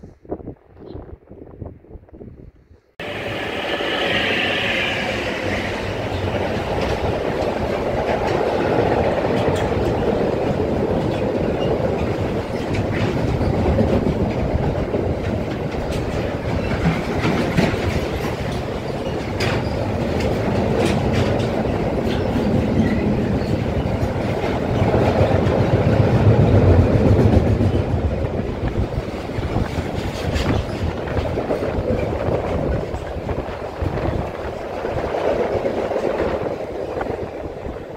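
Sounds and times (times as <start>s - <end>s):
wheels clacking over rail joints: 5.8s - 37.7s.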